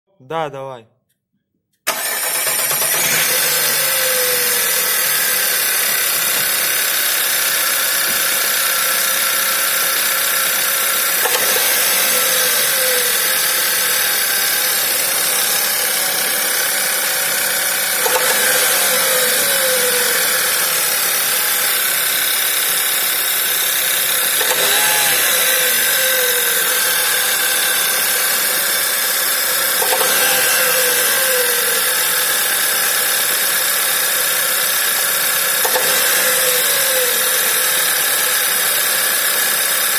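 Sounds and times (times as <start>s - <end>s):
car engine idling: 1.9s - 39.8s
engine knock: 2.0s - 39.9s.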